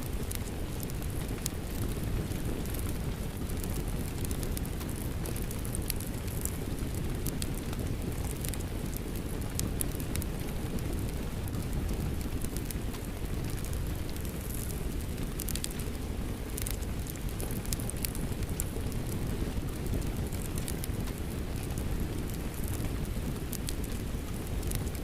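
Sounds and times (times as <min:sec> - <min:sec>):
rain: 0:00.0 - 0:25.0
wood fire crackling and popping: 0:00.0 - 0:25.0.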